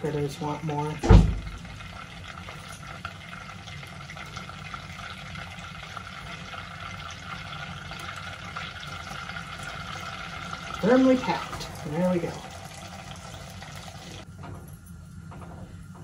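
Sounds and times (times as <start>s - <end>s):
butter sizzling in a saucepan: 0.0s - 14.3s.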